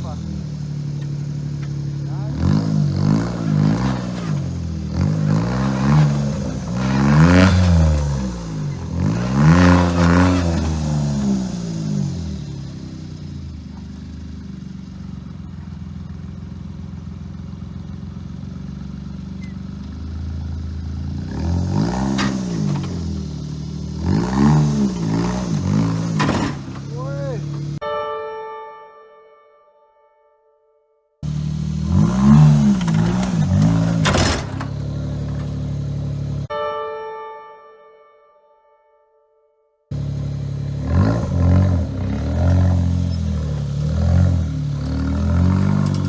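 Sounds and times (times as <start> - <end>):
car engine revving: 0.0 - 27.8, 31.2 - 36.5, 39.9 - 46.0.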